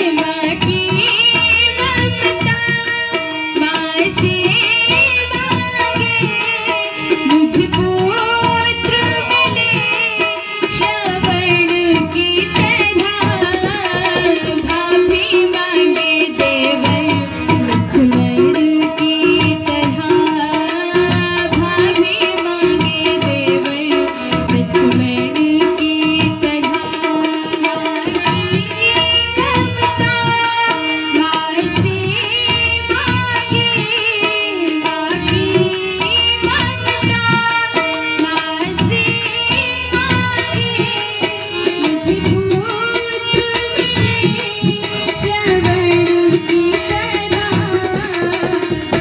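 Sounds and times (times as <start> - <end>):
tabla playing steady rhythm: 0.0 - 49.0
woman singing through microphone: 0.0 - 49.0.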